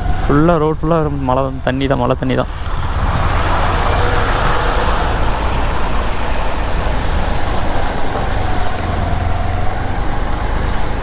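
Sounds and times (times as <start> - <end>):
motorbike engine: 0.0 - 11.0
tyres hissing on wet road: 0.0 - 11.0
wind rumble: 0.0 - 11.0.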